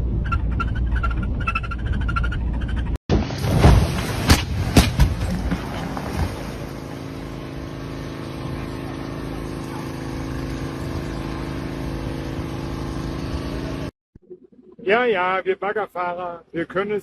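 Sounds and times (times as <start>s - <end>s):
engine running: 0.0s - 13.9s
wind or water noise: 0.0s - 15.0s.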